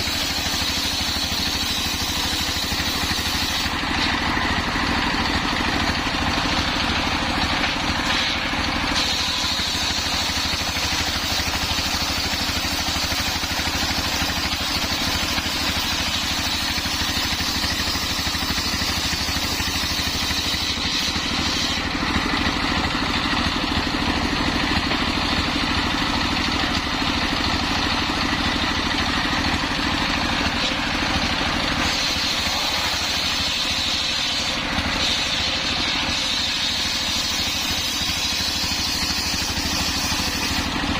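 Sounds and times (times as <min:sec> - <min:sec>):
circular saw blade whine: 0:00.0 - 0:40.9
engine running: 0:00.0 - 0:40.9.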